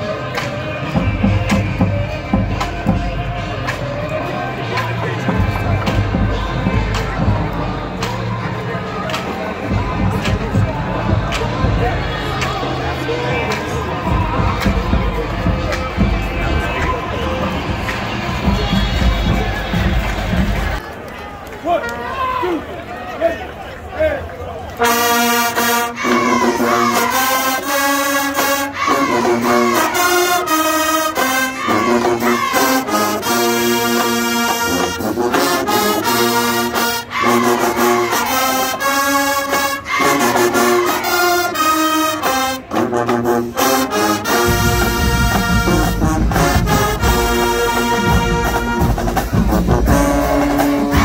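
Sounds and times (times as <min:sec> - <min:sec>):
marching band brass playing: 0:00.0 - 0:20.9, 0:24.7 - 0:51.0.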